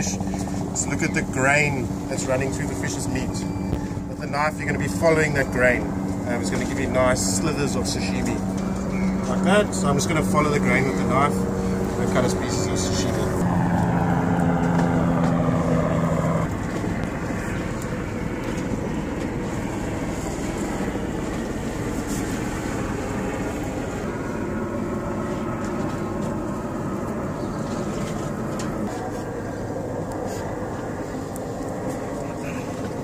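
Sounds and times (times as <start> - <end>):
engine droning: 0.0 - 33.0
loud humming tone: 0.0 - 33.0.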